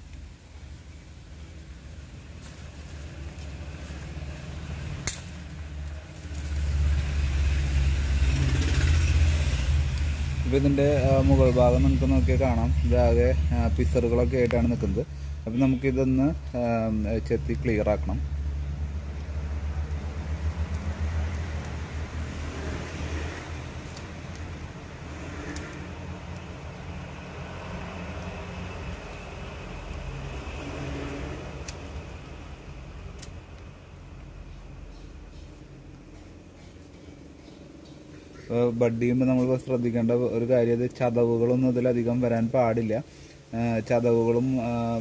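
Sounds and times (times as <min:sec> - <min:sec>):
vehicle engine rumble: 0:00.0 - 0:45.0.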